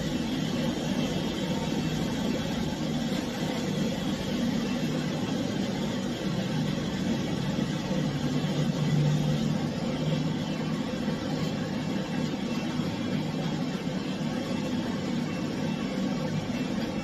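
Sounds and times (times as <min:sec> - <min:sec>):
dryer blower motor running: 0:00.0 - 0:17.0.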